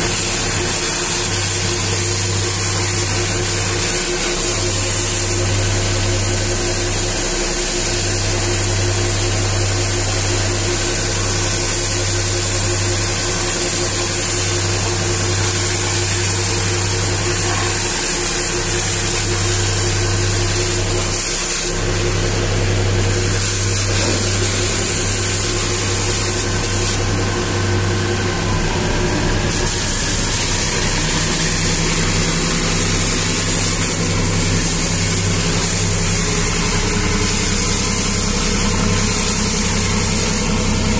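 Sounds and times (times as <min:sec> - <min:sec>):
pressure washer hum: 0:00.0 - 0:40.9
water jet hissing: 0:00.0 - 0:40.9.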